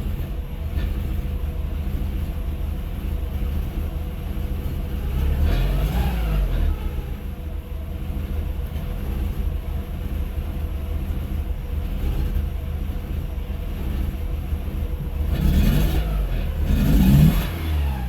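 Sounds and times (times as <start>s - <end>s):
car engine idling: 0.0s - 18.0s
engine knocking noise: 0.0s - 18.0s.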